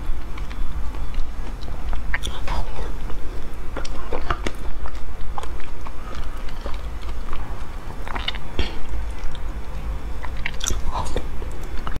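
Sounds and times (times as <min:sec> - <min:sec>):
sucking and smacking mouth sounds: 0:00.2 - 0:12.0.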